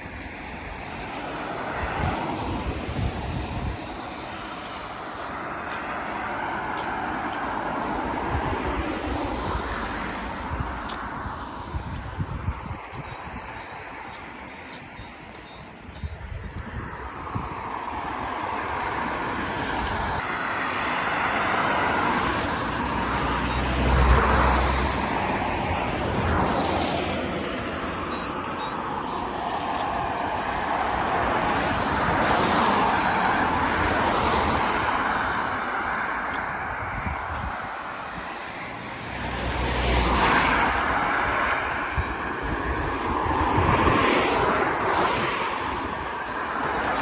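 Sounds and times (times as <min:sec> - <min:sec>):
vehicles passing: 0:00.0 - 0:47.0.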